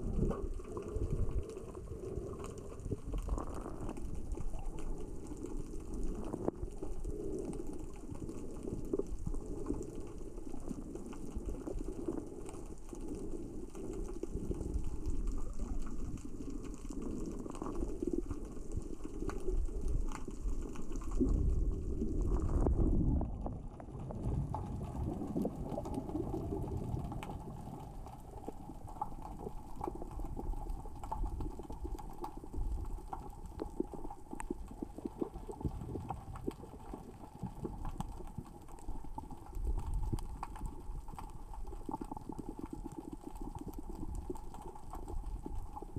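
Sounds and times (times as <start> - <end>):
crackle of small clicks underwater: 0.0 - 45.9
low rumble of moving water: 0.0 - 45.9.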